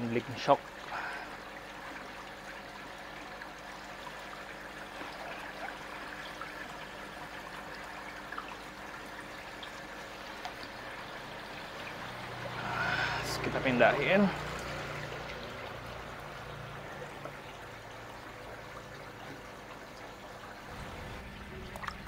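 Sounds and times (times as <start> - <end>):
pond water trickling: 0.0 - 22.0.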